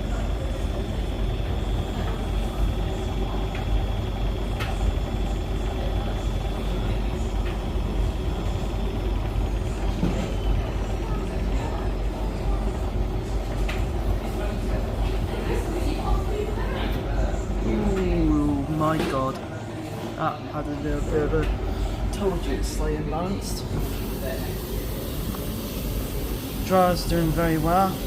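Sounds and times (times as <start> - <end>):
tumble dryer running: 0.0 - 28.0
washing machine spinning: 0.0 - 28.0.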